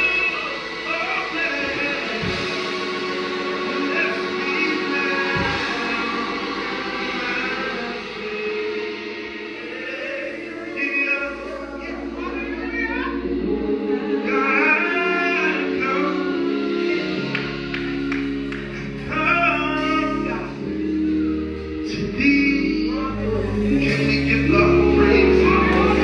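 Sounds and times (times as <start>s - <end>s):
choir singing gospel song: 0.0s - 26.0s
held bass notes: 0.0s - 26.0s
instrumental accompaniment: 0.0s - 26.0s.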